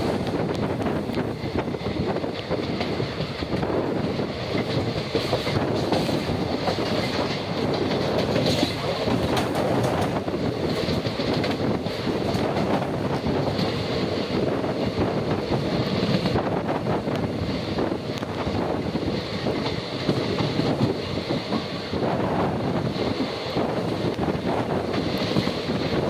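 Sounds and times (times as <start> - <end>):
rushing train noise: 0.0 - 26.0
train wheels clattering: 0.0 - 26.0.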